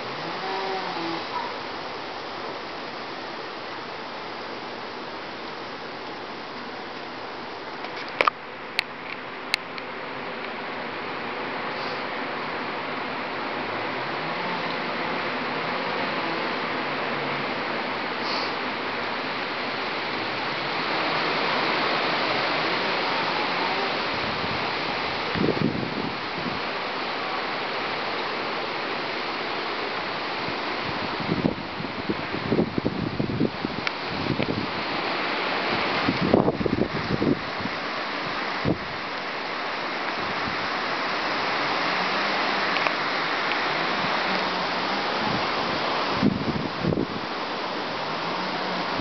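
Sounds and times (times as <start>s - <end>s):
strong wind rushing through trees: 0.0s - 49.0s.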